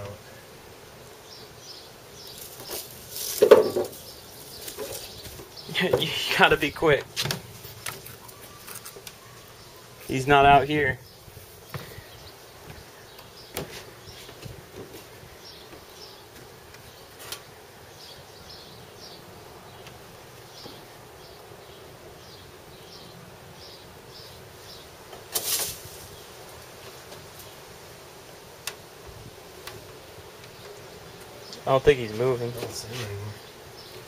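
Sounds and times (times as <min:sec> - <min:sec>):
insect buzzing: 0:00.0 - 0:34.0.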